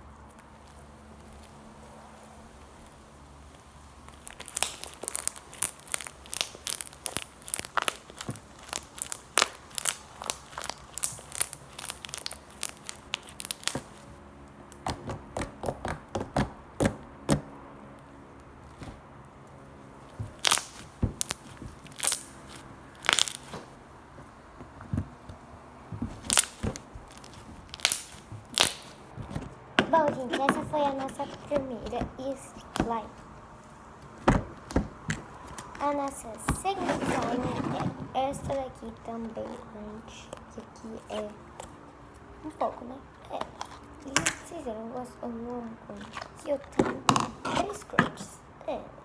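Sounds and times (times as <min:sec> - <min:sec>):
crunchy slime crackling: 0:00.0 - 0:48.0.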